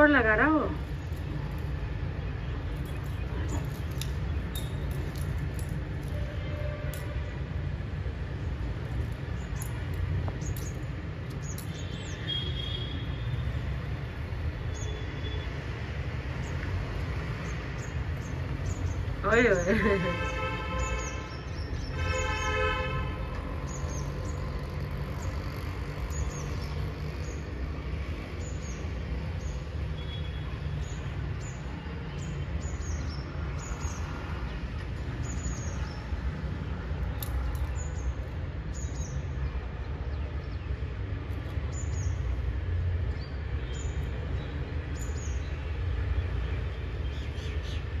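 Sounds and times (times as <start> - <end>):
small birds chirping: 0.0 - 6.2, 8.1 - 15.4, 16.2 - 20.1, 23.6 - 48.0.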